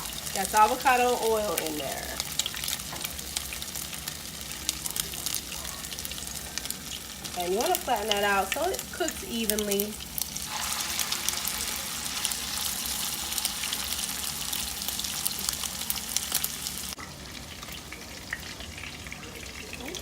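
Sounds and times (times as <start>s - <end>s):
food sizzling in frying oil: 0.0s - 20.0s.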